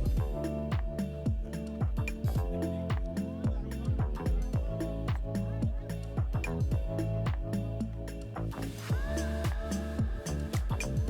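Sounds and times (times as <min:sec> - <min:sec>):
electronic music with bass drum: 0:00.0 - 0:11.0.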